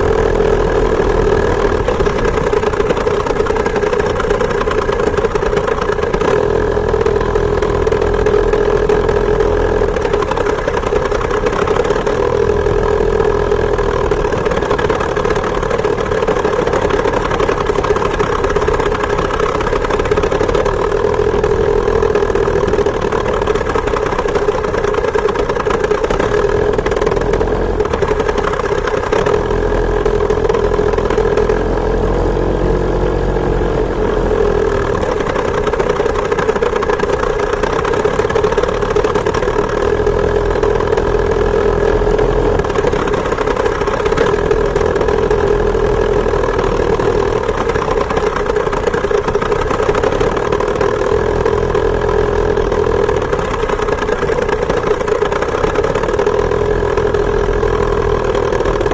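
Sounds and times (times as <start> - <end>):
two-stroke engine running: 0.0 - 58.9.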